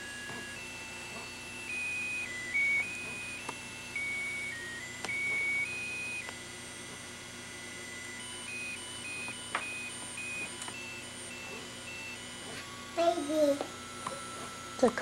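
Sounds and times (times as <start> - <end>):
toy playing electronic beeping tune: 0.0 - 15.0.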